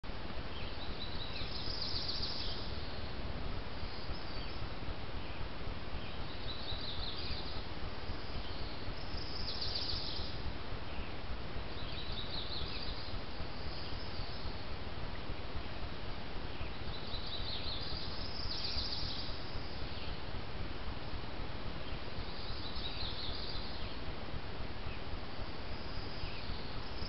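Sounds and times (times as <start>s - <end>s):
songbirds chirping: 0.0s - 27.0s
steady hiss: 0.1s - 27.0s.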